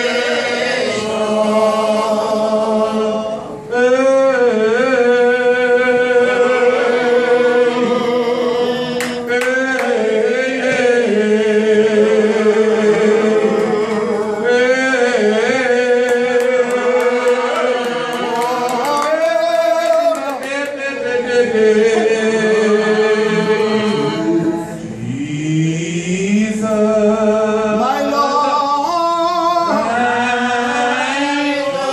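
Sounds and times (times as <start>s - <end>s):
man singing into microphone: 0.0s - 31.9s.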